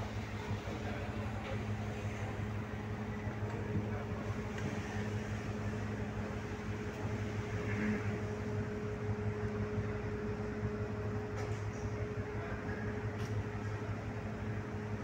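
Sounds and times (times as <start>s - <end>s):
ferry engine humming: 0.0s - 15.0s.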